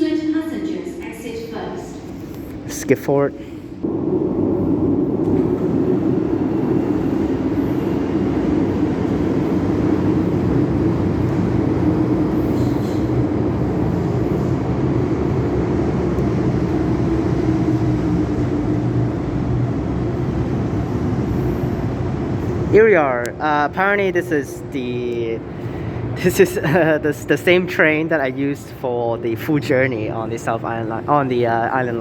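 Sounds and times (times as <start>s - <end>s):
train hum and rumble: 0.0s - 32.0s.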